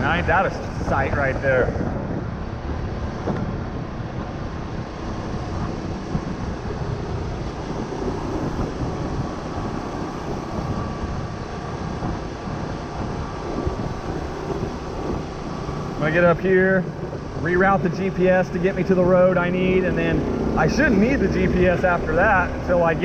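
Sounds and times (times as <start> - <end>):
wind rumble on microphone: 0.0 - 23.0
motorbike engine running: 1.3 - 23.0.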